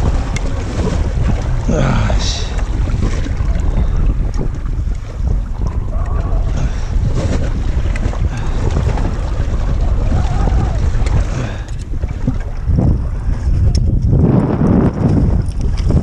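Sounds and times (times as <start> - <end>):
water lapping against boat: 0.0 - 16.0
wind buffeting microphone: 0.0 - 16.0.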